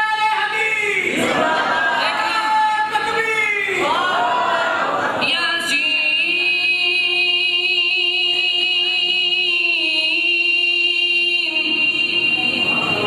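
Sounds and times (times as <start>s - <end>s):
man chanting into microphone: 0.0s - 1.2s, 2.0s - 3.9s, 5.2s - 13.0s.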